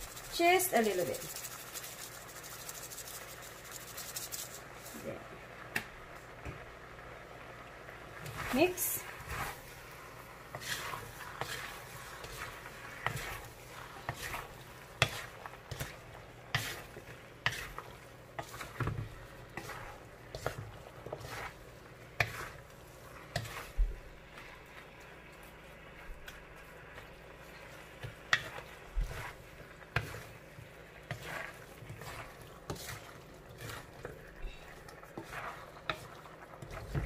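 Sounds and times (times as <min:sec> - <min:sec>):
spatula scraping pan: 0:00.0 - 0:05.0, 0:08.2 - 0:24.8, 0:26.5 - 0:37.0
vegetables sizzling: 0:00.0 - 0:37.0.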